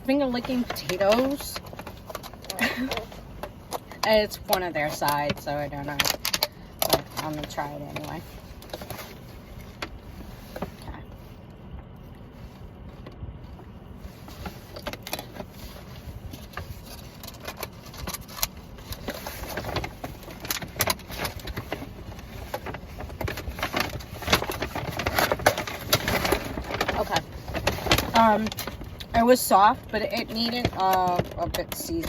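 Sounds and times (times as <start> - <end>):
low rumble: 0.0 - 29.2.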